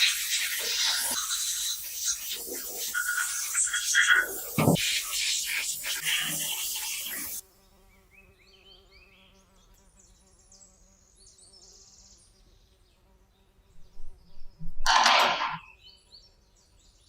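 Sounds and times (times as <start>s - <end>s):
insect buzzing: 0.0s - 14.7s.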